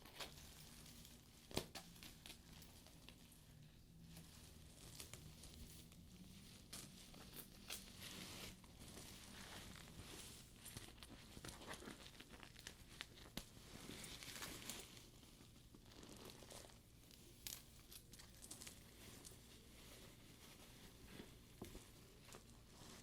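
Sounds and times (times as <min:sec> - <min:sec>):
leather purse rustling: 0:00.0 - 0:23.0.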